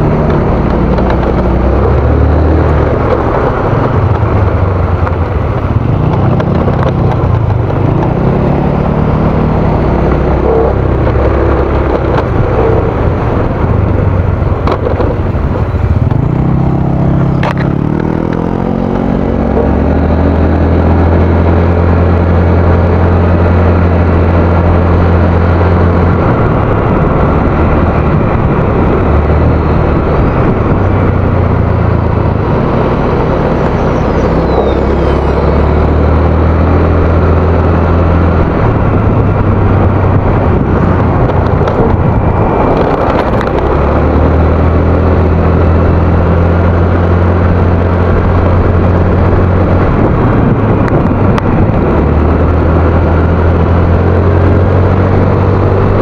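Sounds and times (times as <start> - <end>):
wind noise on microphone: 0.0 - 56.0.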